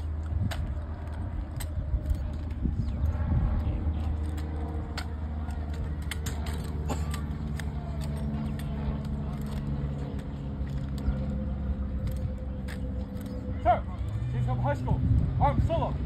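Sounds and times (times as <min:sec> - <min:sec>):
low rumble and hum: 0:00.0 - 0:16.0.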